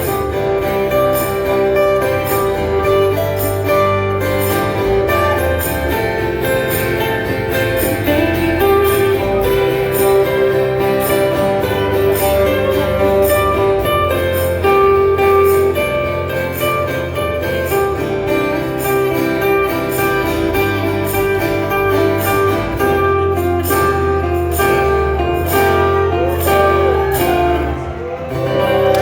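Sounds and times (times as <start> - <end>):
acoustic guitars strumming: 0.0 - 29.0.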